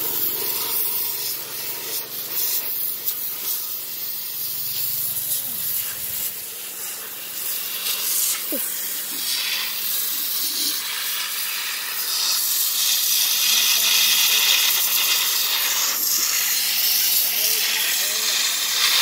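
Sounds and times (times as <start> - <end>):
pressure washer jet hissing: 0.0 - 19.0.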